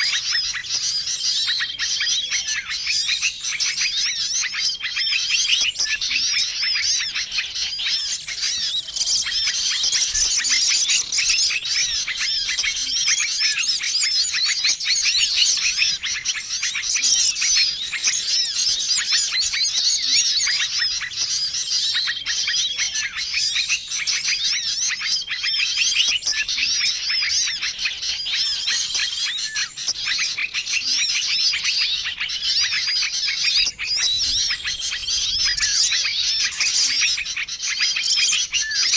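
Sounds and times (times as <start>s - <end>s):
chorus of songbirds chirping: 0.0s - 38.9s.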